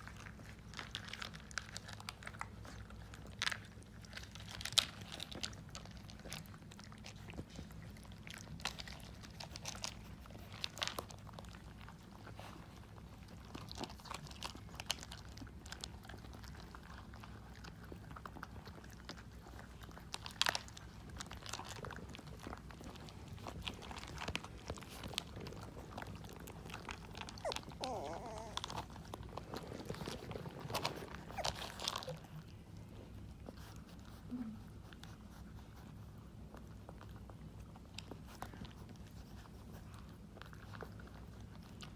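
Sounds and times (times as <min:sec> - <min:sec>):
puppies crunching dry kibble: 0:00.0 - 0:41.9.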